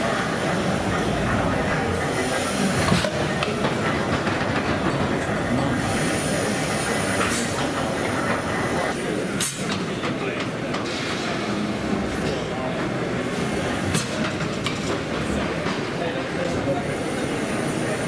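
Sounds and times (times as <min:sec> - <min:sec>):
steam engine running: 0:00.0 - 0:18.0.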